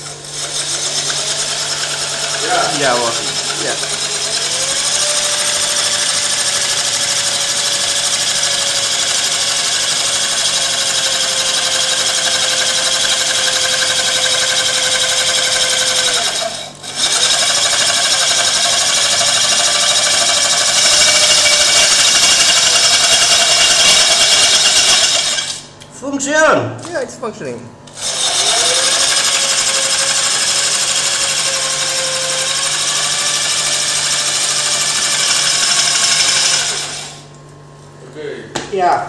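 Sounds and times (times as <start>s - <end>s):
electric drill running: 0.0s - 25.8s, 27.9s - 37.3s.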